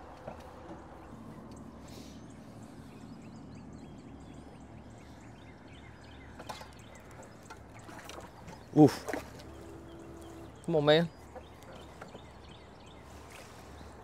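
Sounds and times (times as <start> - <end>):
low steady hum: 0.0 - 14.0
songbirds chirping: 0.0 - 14.0.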